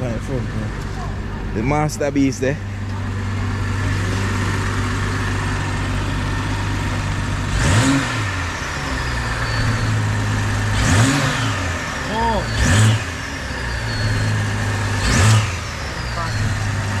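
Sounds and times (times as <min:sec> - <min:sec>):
car engine idling: 0:00.0 - 0:17.0
engine revving: 0:00.0 - 0:17.0.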